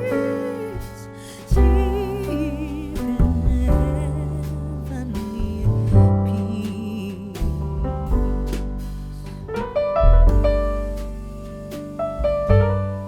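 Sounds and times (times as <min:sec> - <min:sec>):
piano instrumental with beat: 0:00.0 - 0:13.0.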